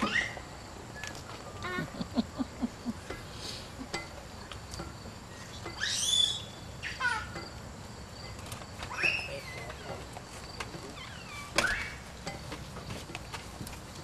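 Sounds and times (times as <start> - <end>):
birds chirping: 0.0 - 13.1.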